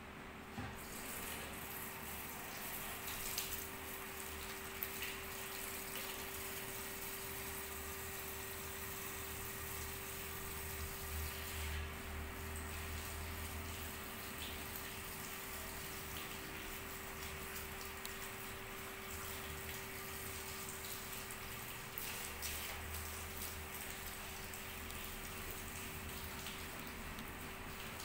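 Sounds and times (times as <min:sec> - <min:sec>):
shower sprayer water splashing: 0:00.8 - 0:28.0.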